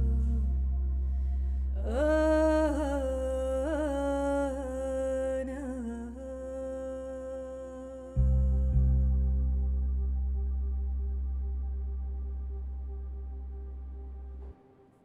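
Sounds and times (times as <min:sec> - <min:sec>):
steady low drone: 0:00.0 - 0:15.0.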